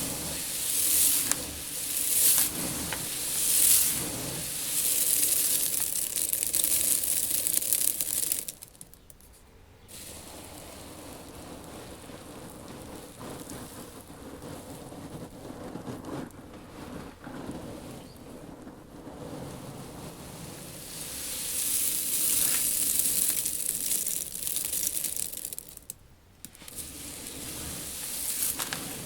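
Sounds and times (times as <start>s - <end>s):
seed pouring in a tank: 0.0s - 9.1s, 9.9s - 29.0s.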